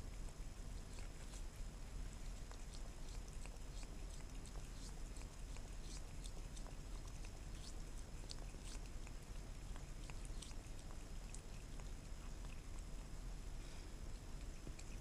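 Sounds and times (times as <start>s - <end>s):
cat lapping: 0.6s - 15.0s.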